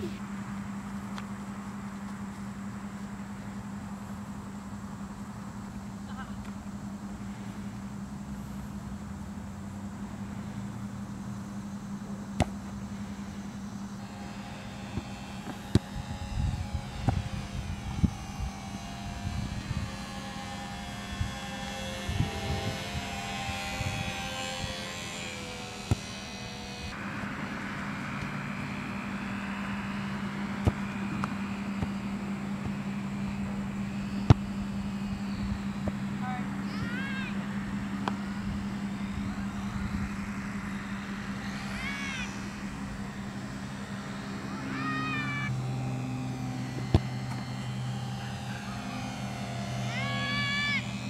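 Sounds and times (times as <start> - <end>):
low rumbles: 0.0 - 51.0
model airplane motor whining: 0.0 - 51.0
steady low hum: 0.0 - 51.0.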